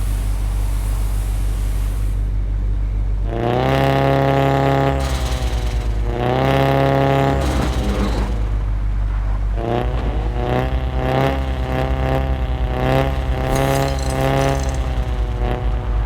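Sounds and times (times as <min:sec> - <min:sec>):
car exhaust revving: 0:02.9 - 0:16.0.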